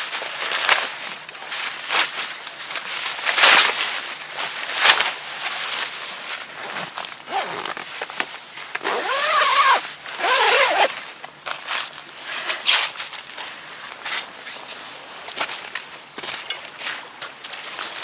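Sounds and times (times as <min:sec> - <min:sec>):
rustling and handling noises: 0:00.0 - 0:18.0.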